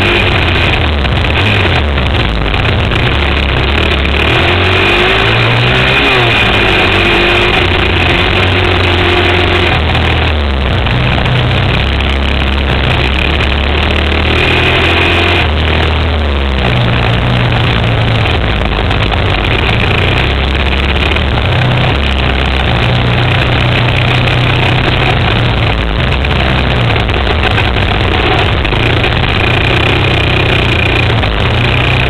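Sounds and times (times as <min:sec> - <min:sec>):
quad bike engine revving: 0:00.0 - 0:32.0.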